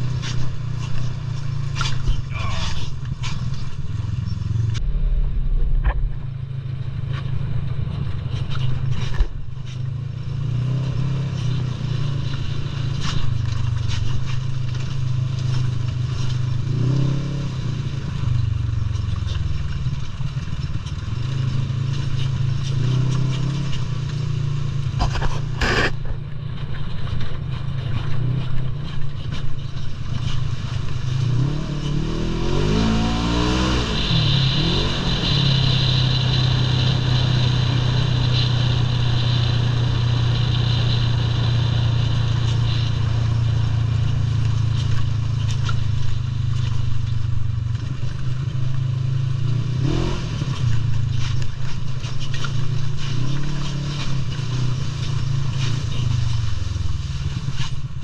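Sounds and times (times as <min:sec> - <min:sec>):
rattles and knocks of bouncing vehicle: 0:00.0 - 0:34.5, 0:35.2 - 0:58.0
atv engine revving: 0:00.0 - 0:57.7.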